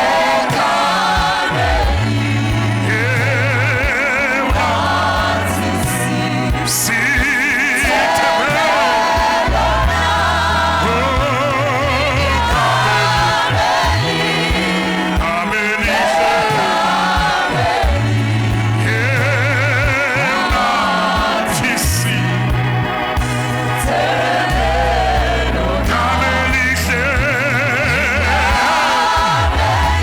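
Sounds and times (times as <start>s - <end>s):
gospel choir singing: 0.0s - 30.0s
instrumental accompaniment: 0.0s - 30.0s.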